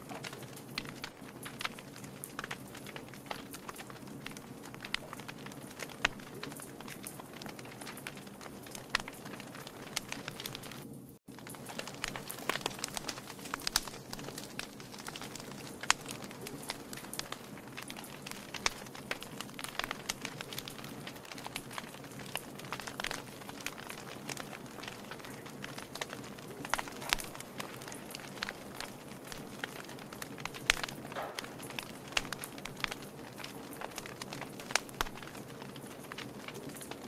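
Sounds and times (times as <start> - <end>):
logs crackling in fireplace: 0.0 - 37.0.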